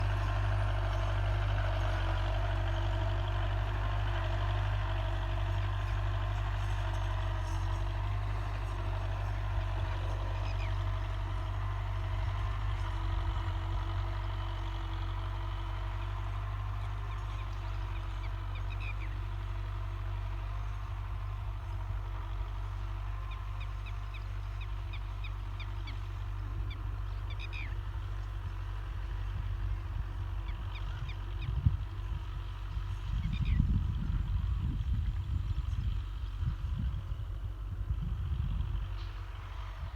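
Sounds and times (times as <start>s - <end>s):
birds chirping: 0.0s - 33.7s
tractor engine rumbling: 0.0s - 39.9s.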